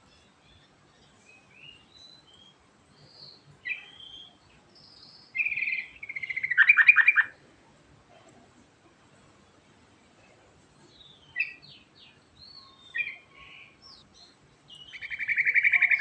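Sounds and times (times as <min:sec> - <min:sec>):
bird singing trills and chirps: 0:00.0 - 0:07.4, 0:10.2 - 0:16.0.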